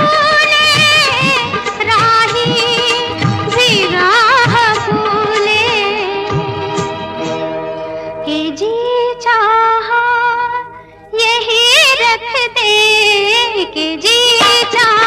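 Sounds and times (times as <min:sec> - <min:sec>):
woman singing with vibrato: 0:00.0 - 0:07.4, 0:08.2 - 0:15.0.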